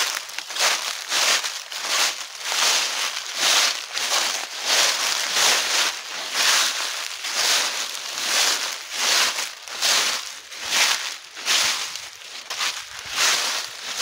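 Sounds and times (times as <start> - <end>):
footsteps in dry leaves: 0.0 - 14.0.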